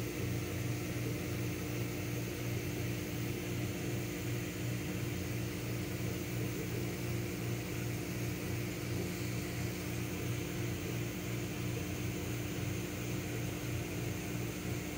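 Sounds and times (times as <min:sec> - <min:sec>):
aquarium aerator humming: 0:00.0 - 0:14.9.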